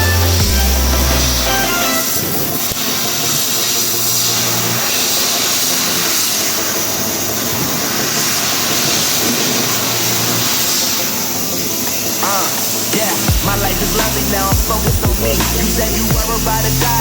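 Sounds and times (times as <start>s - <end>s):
laser gas jet hissing: 0.0s - 17.0s.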